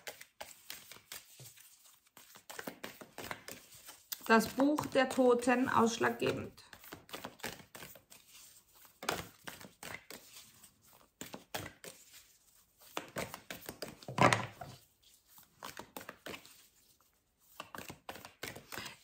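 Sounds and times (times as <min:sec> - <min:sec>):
cards being shuffled: 0:00.0 - 0:19.0.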